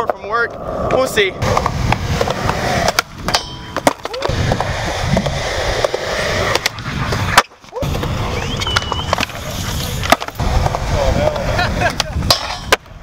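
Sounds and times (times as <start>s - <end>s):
skateboard clacking on ground: 0.0s - 0.6s, 1.4s - 13.0s
skateboard wheels rolling on concrete: 0.0s - 13.0s.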